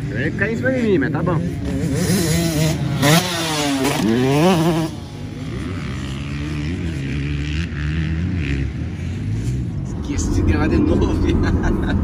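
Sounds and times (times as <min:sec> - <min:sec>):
dirt bike engine revving: 0:00.0 - 0:09.9
distant dirt bike engine: 0:00.0 - 0:12.0.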